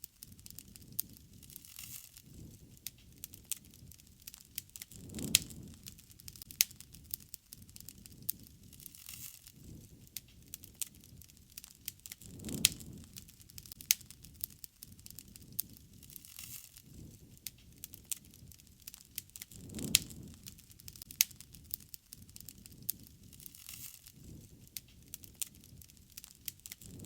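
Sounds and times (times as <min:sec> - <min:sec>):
campfire crackling: 0:00.0 - 0:27.0
fire pops and snaps: 0:00.0 - 0:27.0
low rumble of flames: 0:00.0 - 0:27.0.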